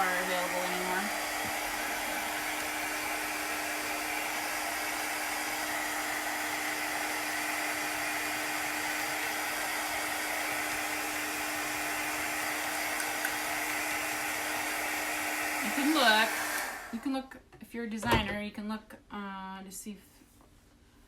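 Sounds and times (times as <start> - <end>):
handheld dryer blowing: 0.0 - 17.2.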